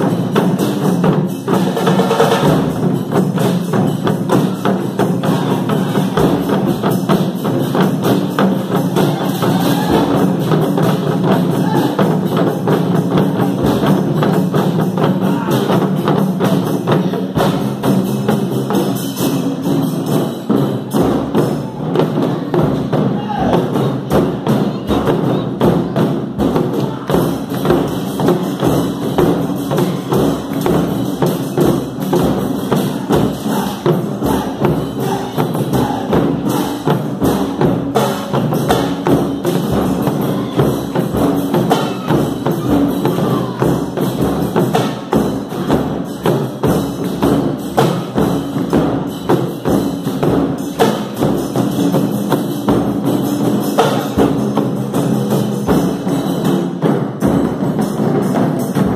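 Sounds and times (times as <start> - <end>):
other percussion: 0.0 - 58.9
taiko drums playing: 0.0 - 58.9.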